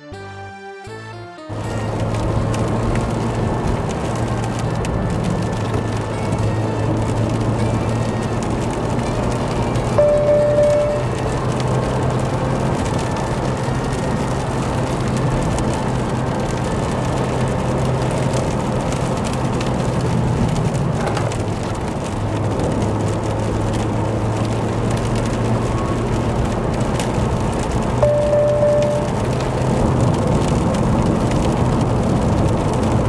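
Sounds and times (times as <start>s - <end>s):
car engine hum: 1.5s - 33.0s
rain on car: 1.5s - 33.0s
tyre and road noise: 1.5s - 33.0s.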